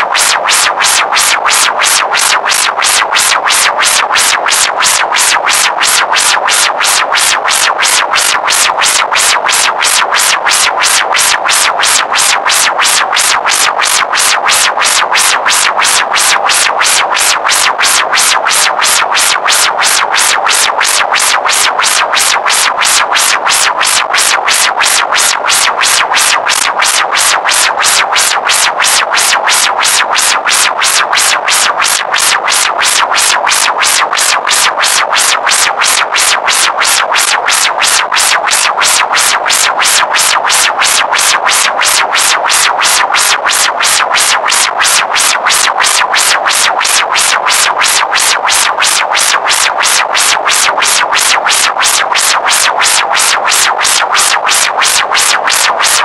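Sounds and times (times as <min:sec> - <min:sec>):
synthesizer pulsing rapidly: 0:00.0 - 0:56.0.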